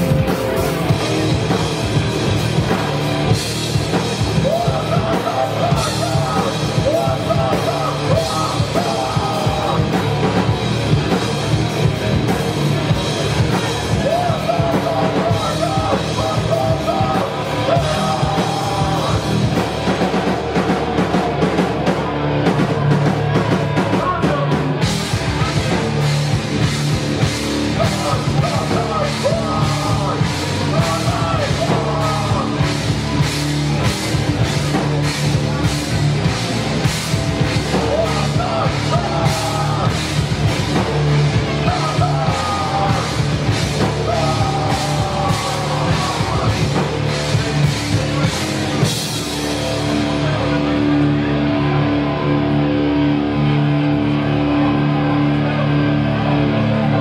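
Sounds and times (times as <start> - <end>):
drum kit with cymbals: 0.0 - 51.0
person singing: 0.0 - 52.2
electric guitars: 0.0 - 57.0.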